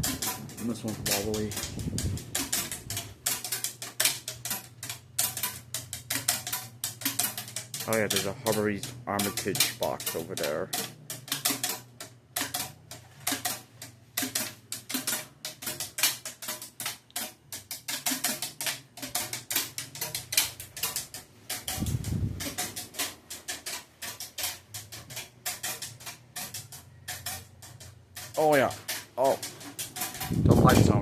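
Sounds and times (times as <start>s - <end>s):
ceiling fans humming: 0.0s - 31.0s
fast irregular clicking: 0.0s - 31.0s.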